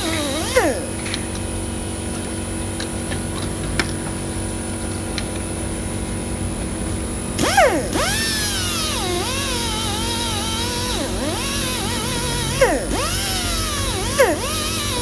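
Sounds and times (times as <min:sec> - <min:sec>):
steady engine hum: 0:00.0 - 0:15.0.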